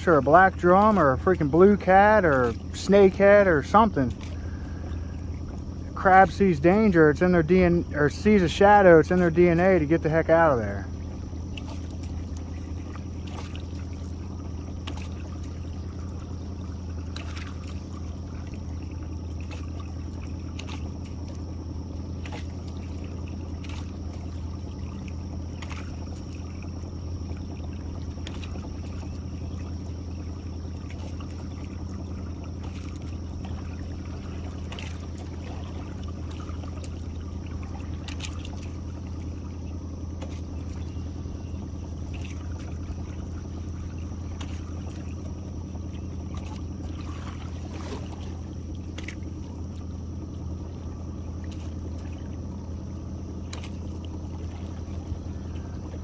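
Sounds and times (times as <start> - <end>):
outboard motor idling: 0.0 - 56.0
trickling water: 0.0 - 56.0.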